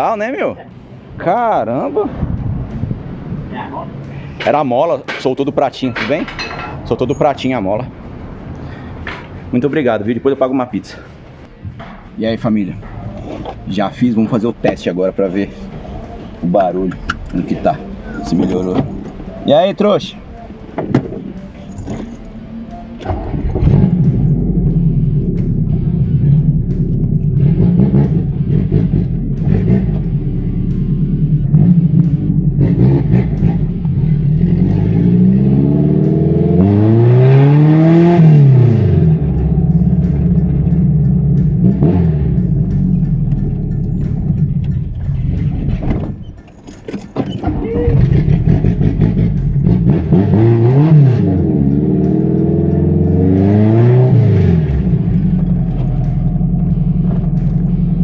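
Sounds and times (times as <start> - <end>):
car engine accelerating: 0.0 - 6.2, 6.8 - 58.0.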